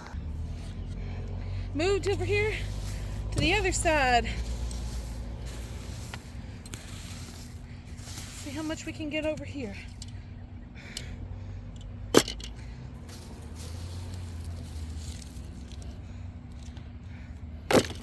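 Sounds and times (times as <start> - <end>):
scraping and rustling of earth: 0.0 - 10.2, 12.1 - 18.0.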